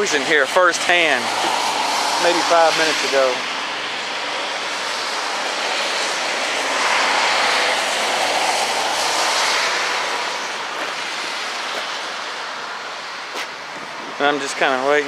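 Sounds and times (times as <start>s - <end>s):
passing vehicle rushing: 0.0s - 15.0s.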